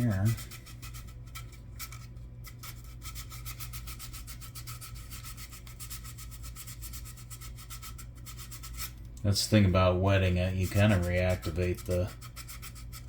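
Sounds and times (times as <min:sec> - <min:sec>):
wet sandpaper rubbing on plastic: 0:00.0 - 0:09.0, 0:09.6 - 0:13.0.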